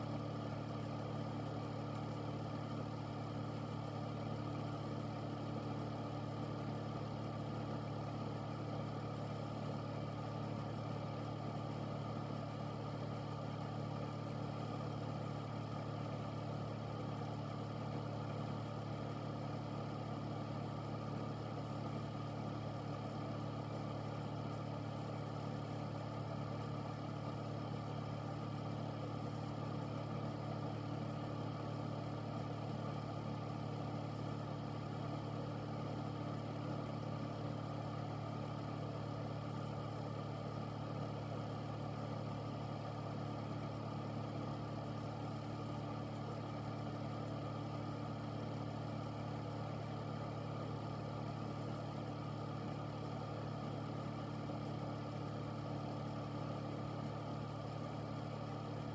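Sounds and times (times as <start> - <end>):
air purifier running: 0.0 - 58.9.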